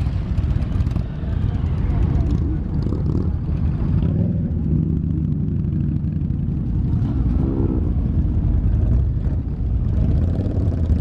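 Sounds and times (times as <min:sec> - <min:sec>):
motorcycles rumbling past: 0:00.0 - 0:11.0.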